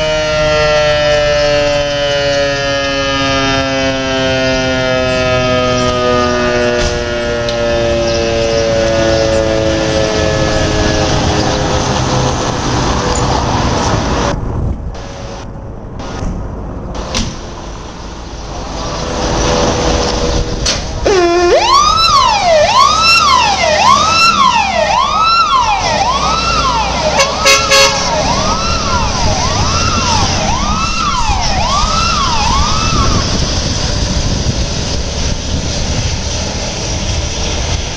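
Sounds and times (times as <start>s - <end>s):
fire engine siren wailing: 0.0s - 14.4s, 15.0s - 16.2s, 17.0s - 37.9s
diesel engine running: 4.5s - 37.9s.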